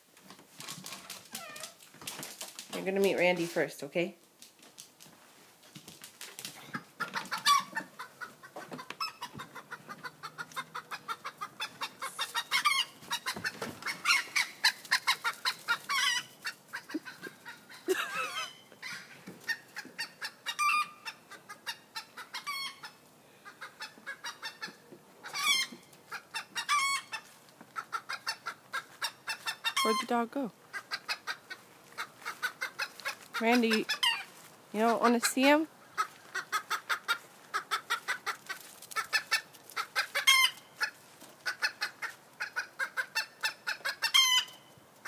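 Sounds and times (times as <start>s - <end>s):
chickens clucking: 6.4s - 45.0s
chicken drawn-out calls: 6.6s - 44.8s.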